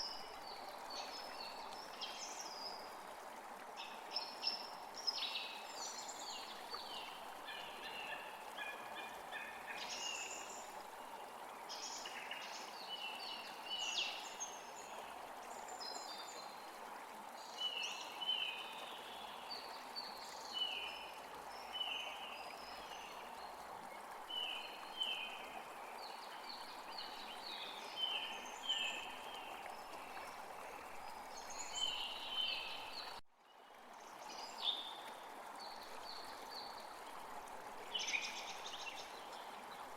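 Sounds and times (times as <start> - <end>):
songbirds chirping: 0.0 - 33.2
flowing water rushing: 0.0 - 39.9.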